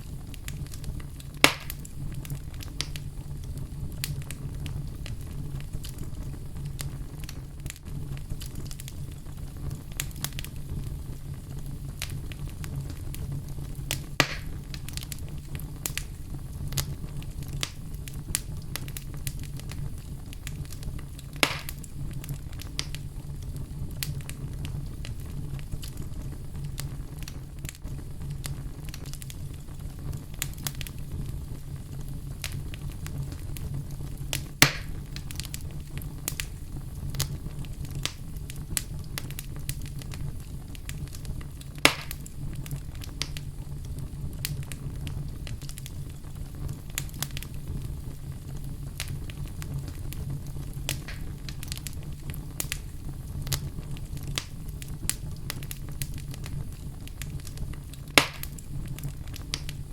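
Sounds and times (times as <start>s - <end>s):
fire pops: 0.0s - 59.9s
wood fire crackling: 0.0s - 59.9s.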